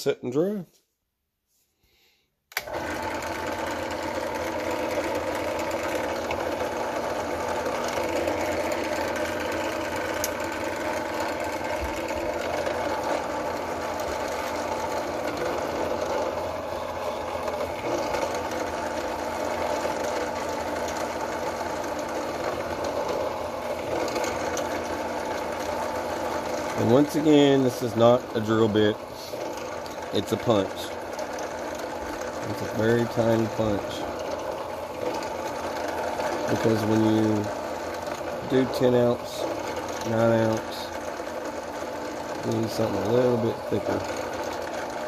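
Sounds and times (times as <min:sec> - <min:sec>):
drill press motor running: 0:02.5 - 0:45.0.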